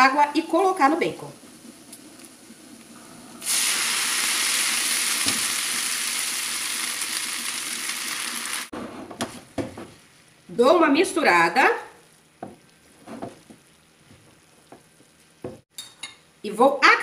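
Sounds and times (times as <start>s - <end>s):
fat sizzling in a frying pan: 0.0s - 16.4s.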